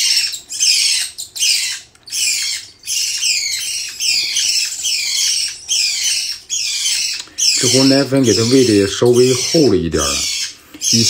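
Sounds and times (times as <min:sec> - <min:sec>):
cockatiel chicks begging calls: 0:00.0 - 0:11.0.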